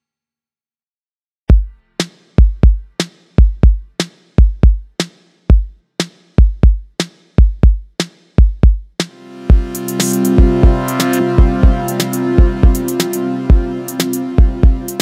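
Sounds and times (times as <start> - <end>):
drum machine beat: 1.5 - 15.0.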